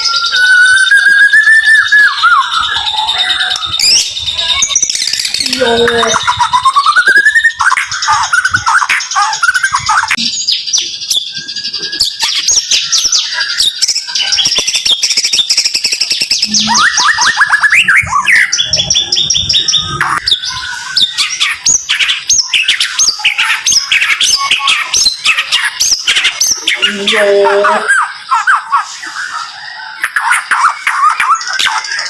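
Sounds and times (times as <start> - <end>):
bird singing rapid sharp notes: 0.0 - 32.0.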